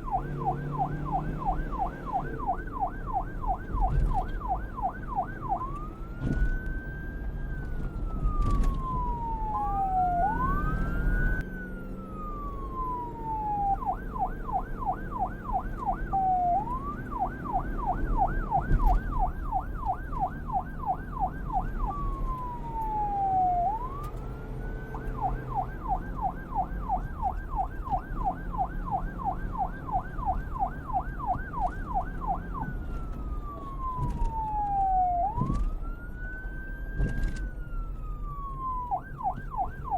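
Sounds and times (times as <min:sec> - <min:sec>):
police siren wailing and yelping: 0:00.0 - 0:39.9.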